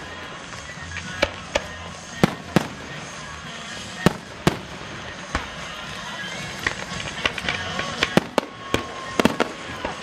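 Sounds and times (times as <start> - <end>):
fireworks banging: 0.0 - 10.0.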